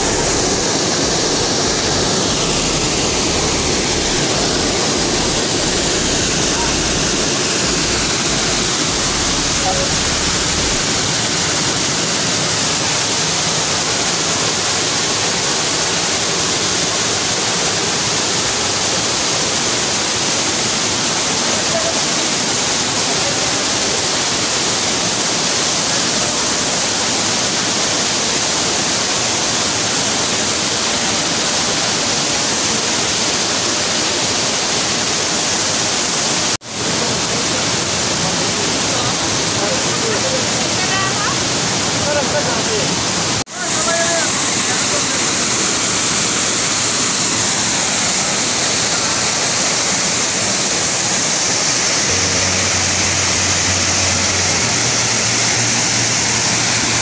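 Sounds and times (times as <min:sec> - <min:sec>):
waterfall rushing into pool: 0:00.0 - 0:57.0.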